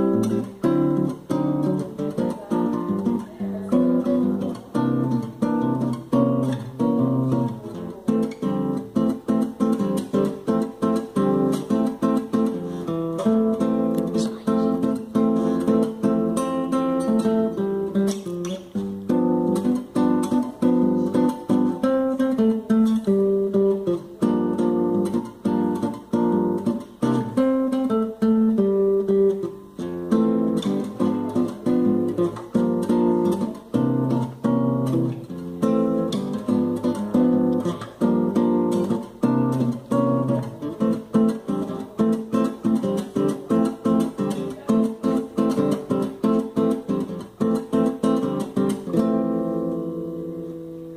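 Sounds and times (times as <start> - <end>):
solo acoustic guitar: 0.0 - 50.9.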